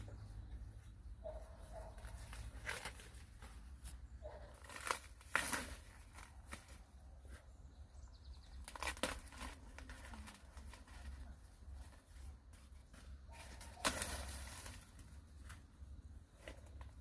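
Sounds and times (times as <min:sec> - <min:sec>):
rustling and crackling: 0:00.0 - 0:07.6, 0:08.5 - 0:17.0.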